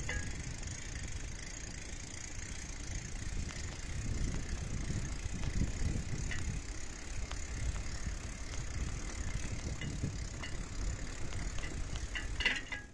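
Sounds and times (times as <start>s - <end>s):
bicycle rolling over dirt: 0.0s - 12.9s
bike rattles and clicks: 0.0s - 12.9s.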